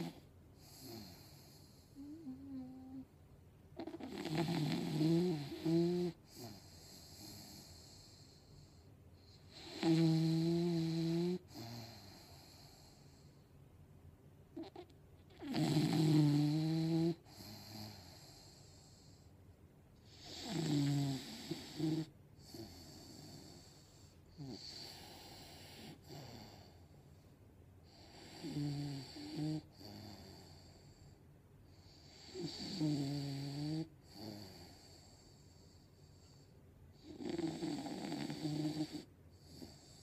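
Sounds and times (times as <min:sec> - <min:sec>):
dog snoring: 0:00.0 - 0:03.1, 0:03.8 - 0:13.3, 0:14.6 - 0:19.2, 0:20.0 - 0:26.8, 0:27.8 - 0:31.2, 0:31.8 - 0:40.0.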